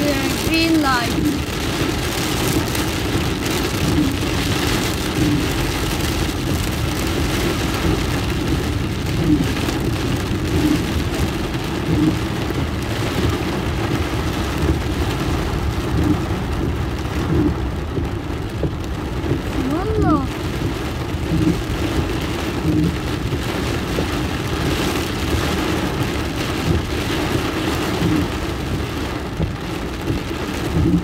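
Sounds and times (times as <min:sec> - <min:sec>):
car engine: 0:00.0 - 0:31.0
heavy rain drumming on car roof: 0:00.0 - 0:31.0
tyres on flooded road: 0:00.0 - 0:31.0.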